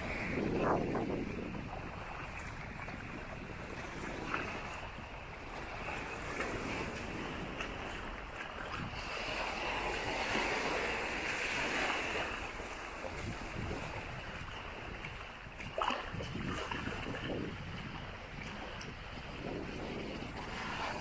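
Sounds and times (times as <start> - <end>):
small waves washing on sand: 0.0 - 21.0
wind buffeting microphone: 0.0 - 21.0.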